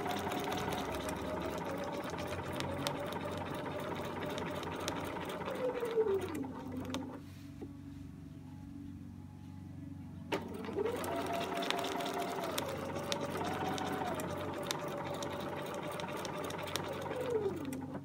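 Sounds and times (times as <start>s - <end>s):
sewing machine stitching: 0.0s - 7.2s, 10.3s - 18.0s.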